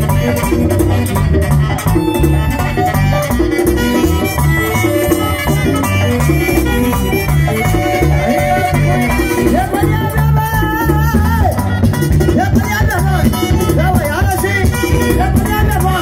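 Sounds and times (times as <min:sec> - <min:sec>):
accordion: 0:00.0 - 0:16.0
bass line: 0:00.0 - 0:16.0
hand drums: 0:00.0 - 0:16.0
saxophone: 0:00.0 - 0:16.0.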